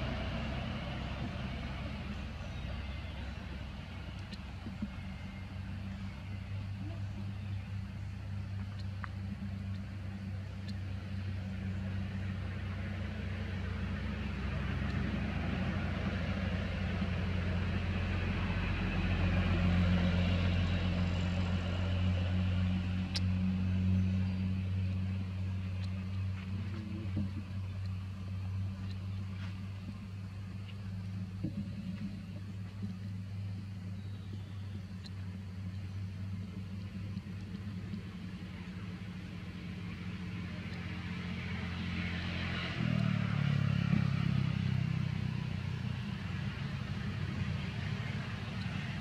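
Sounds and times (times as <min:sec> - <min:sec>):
motor engine humming: 0:00.0 - 0:49.0.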